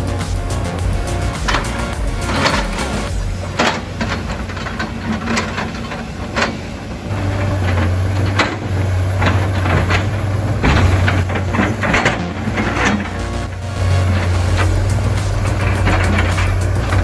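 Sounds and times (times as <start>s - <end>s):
heavy machine engine running: 0.0s - 17.0s.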